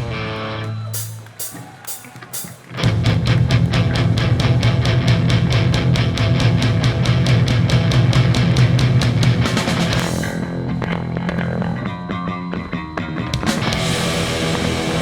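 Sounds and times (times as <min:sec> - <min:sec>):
punk band playing: 0:00.0 - 0:15.0.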